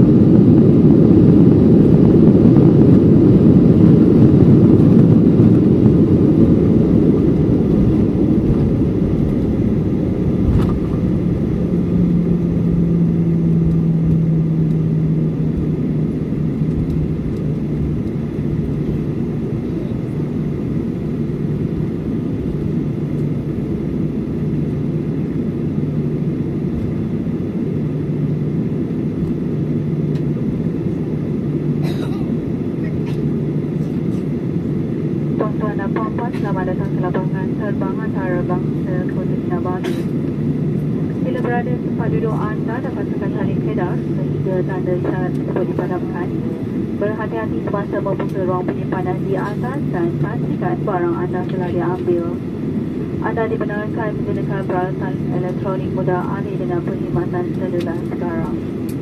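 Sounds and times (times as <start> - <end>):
aircraft cabin rumble: 0.0 - 59.0
jet engine hum: 0.0 - 59.0.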